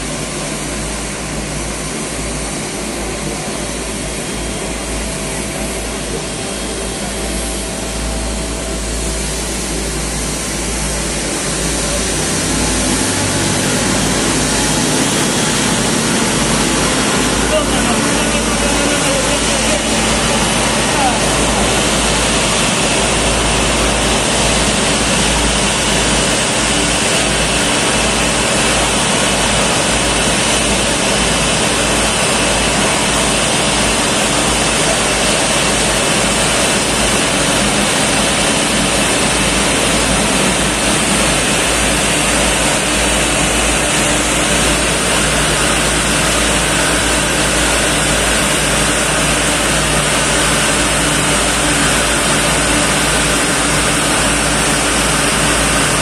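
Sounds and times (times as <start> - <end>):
jet engines idling: 0.0 - 56.0
water jets spraying: 4.4 - 56.0.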